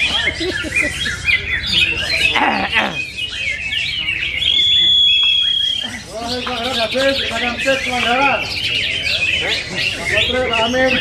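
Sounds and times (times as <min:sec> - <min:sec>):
birds chirping and twittering: 0:00.0 - 0:11.0
murmur of voices: 0:00.0 - 0:11.0.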